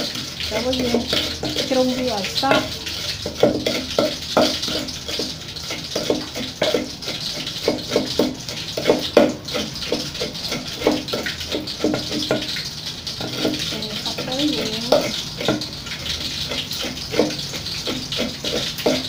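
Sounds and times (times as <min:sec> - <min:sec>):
pestle pounding in wooden mortar: 0:00.0 - 0:12.6, 0:14.5 - 0:19.0.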